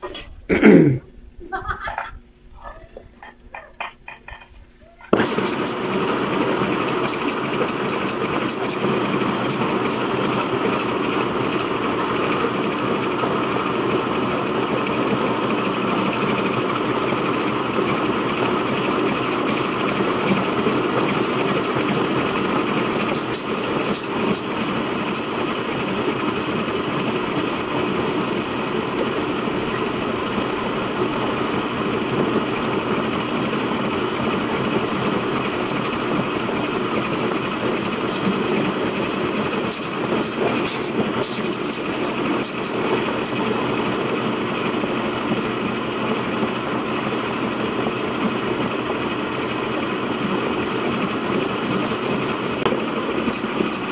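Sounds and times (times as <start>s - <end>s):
grinding mill running: 1.6s - 53.9s.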